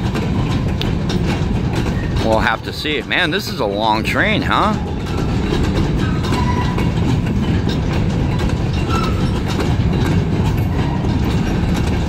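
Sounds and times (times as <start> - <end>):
freight train rumbling past: 0.0 - 12.0
wheels clicking over rail joints: 0.0 - 12.0.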